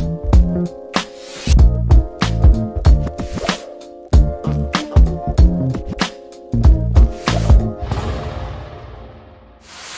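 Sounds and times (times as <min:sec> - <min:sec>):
background music with drum beat: 0:00.0 - 0:08.1.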